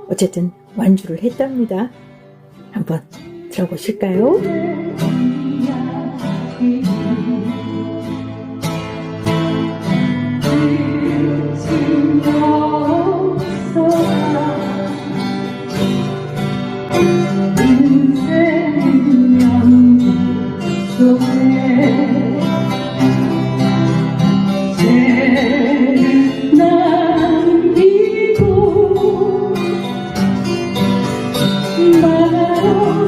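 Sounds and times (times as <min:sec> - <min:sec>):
acoustic guitar playing: 0:00.0 - 0:33.0
person singing: 0:02.8 - 0:08.7, 0:09.7 - 0:16.2, 0:16.9 - 0:30.6, 0:31.4 - 0:33.0.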